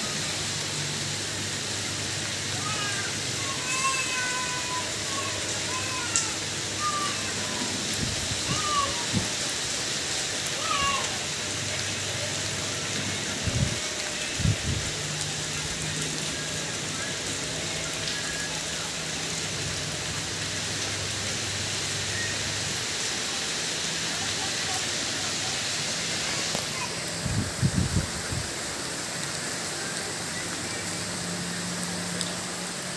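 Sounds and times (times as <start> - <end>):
steady rain hiss: 0.0 - 32.9.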